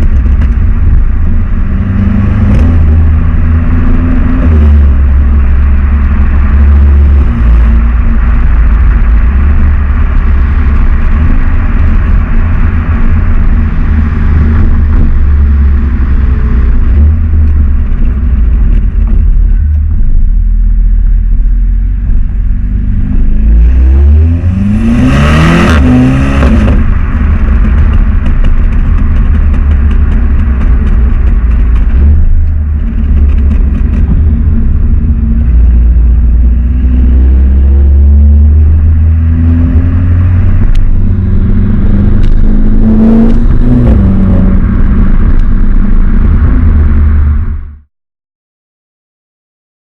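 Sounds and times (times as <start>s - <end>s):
engine revving: 0.0s - 20.0s, 21.7s - 47.9s
car engine droning: 0.0s - 47.9s.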